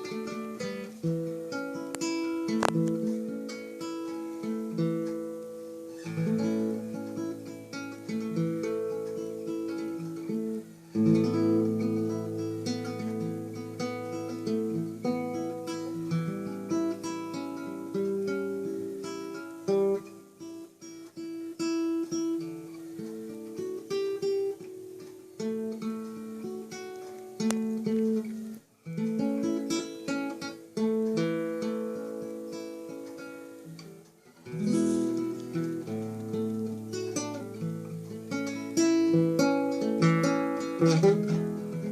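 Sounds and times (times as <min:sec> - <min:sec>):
acoustic guitar fingerpicking: 0:00.0 - 0:41.9.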